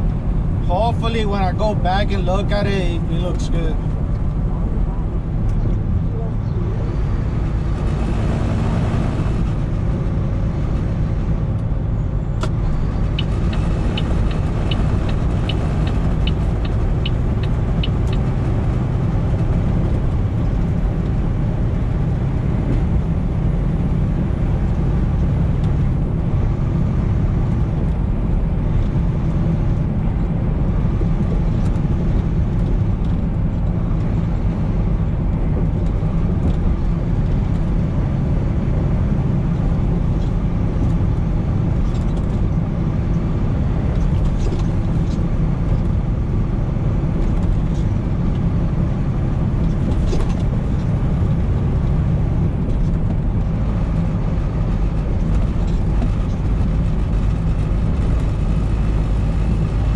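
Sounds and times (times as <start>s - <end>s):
truck engine and road drone: 0.0s - 59.9s.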